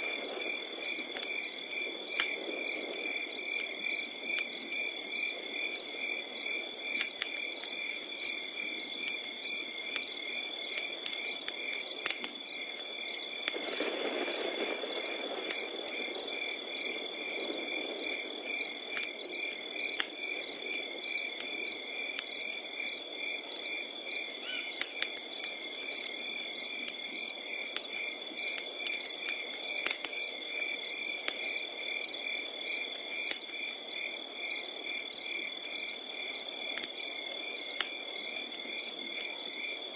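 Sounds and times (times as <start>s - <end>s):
campfire crackling: 0.0s - 39.9s
crickets chirping: 0.0s - 39.9s
low rush of fire: 0.0s - 39.9s.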